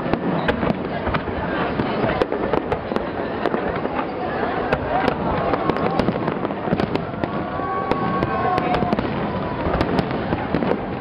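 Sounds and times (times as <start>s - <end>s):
fireworks popping and crackling: 0.0s - 11.0s
rumble of firework bursts: 0.0s - 11.0s.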